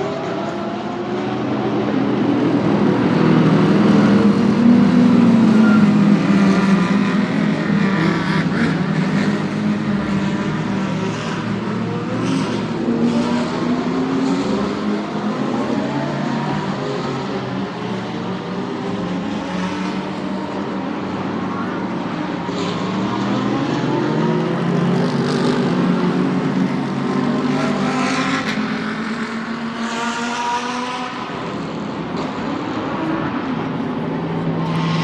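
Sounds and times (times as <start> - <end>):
race car engines running: 0.0 - 35.0.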